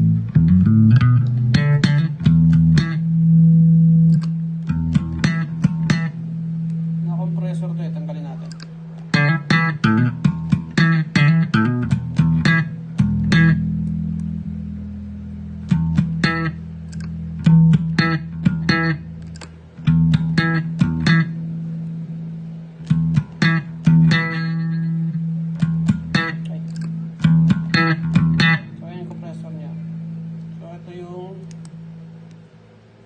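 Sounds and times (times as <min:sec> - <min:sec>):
electric bass guitar: 0:00.0 - 0:32.6.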